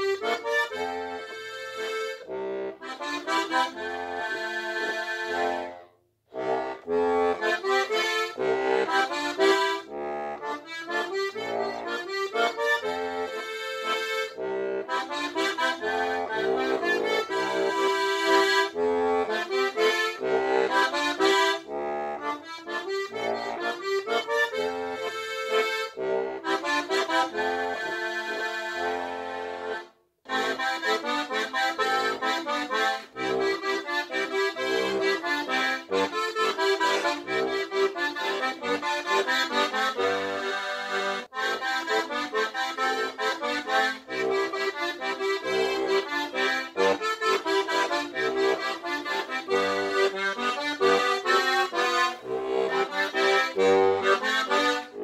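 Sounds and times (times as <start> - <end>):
button accordion playing a waltz: 0.0 - 55.0.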